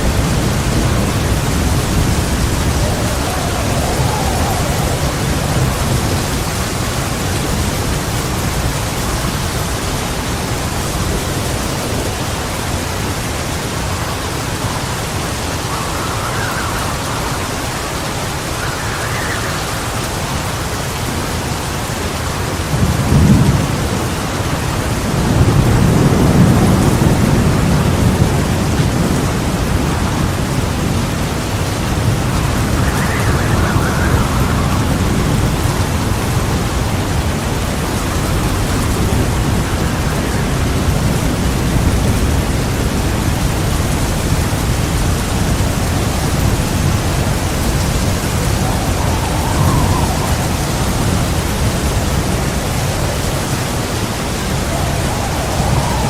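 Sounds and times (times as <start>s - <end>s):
thunder clap: 0.0s - 21.6s, 22.5s - 56.0s
heavy rain: 0.0s - 56.0s
rolling thunder rumble: 0.0s - 56.0s.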